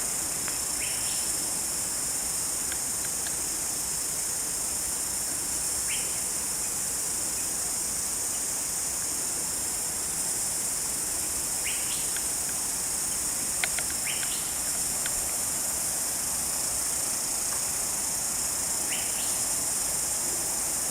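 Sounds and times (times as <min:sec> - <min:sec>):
insects chorus: 0:00.0 - 0:20.9.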